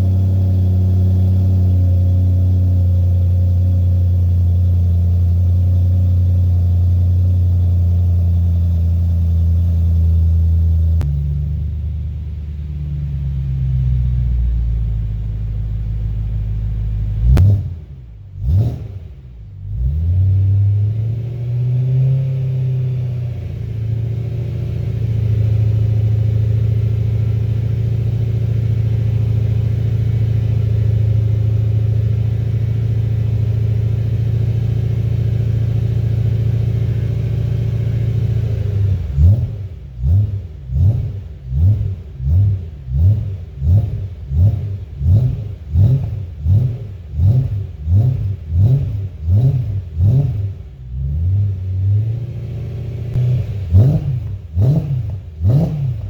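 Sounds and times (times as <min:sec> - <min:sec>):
sports car exhaust revving: 0:00.0 - 0:56.0.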